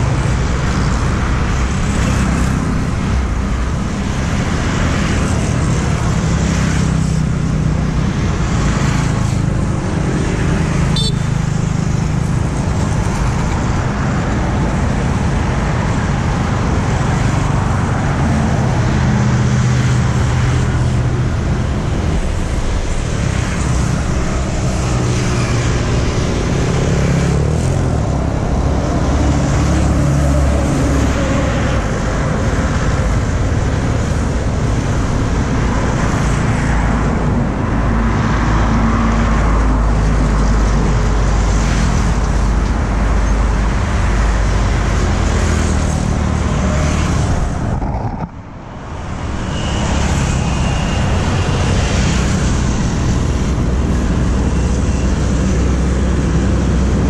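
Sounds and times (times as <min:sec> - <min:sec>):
cars and trucks passing: 0:00.0 - 0:57.0
motorbikes passing: 0:00.0 - 0:57.0.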